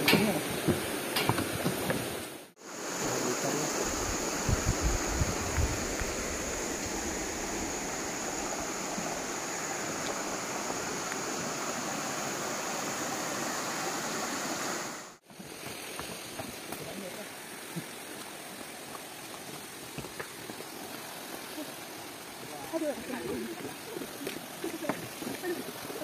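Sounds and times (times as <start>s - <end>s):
stream running over stones: 0.0s - 26.0s.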